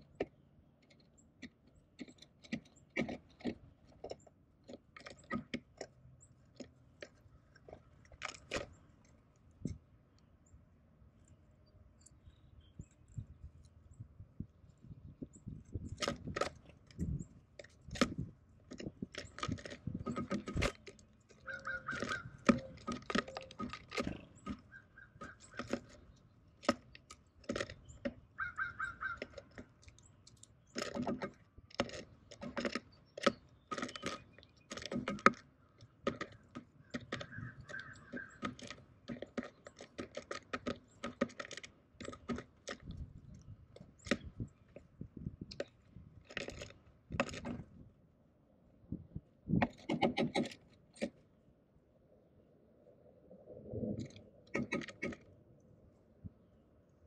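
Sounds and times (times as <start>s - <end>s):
bird pecking and scratching on feeder: 0.0s - 9.9s, 12.8s - 47.8s, 49.6s - 51.2s, 54.0s - 55.3s.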